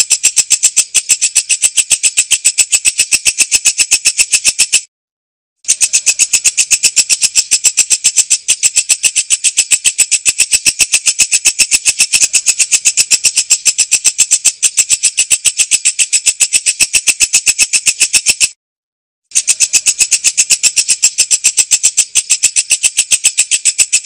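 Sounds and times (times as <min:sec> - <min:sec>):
bush cricket chirping: 0:00.0 - 0:04.8, 0:05.7 - 0:18.4, 0:19.4 - 0:24.0.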